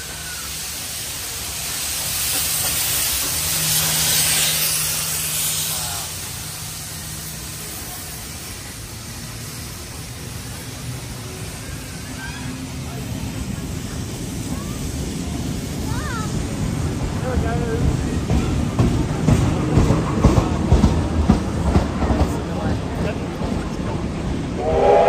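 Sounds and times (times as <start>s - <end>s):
steam hissing: 0.0s - 22.0s, 24.1s - 25.0s
train rolling: 0.0s - 25.0s.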